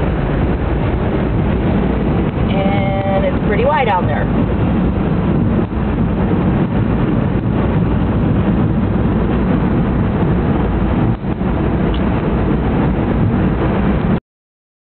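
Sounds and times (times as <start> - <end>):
road and wind noise in car cabin: 0.0 - 14.2.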